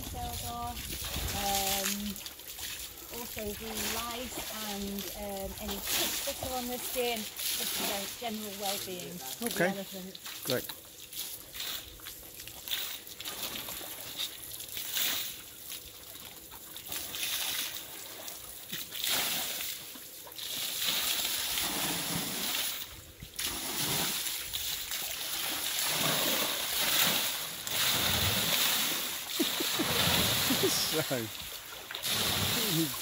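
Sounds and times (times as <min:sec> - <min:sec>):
water spilling over an edge: 0:00.0 - 0:33.0
water splashing in a trough: 0:00.0 - 0:33.0.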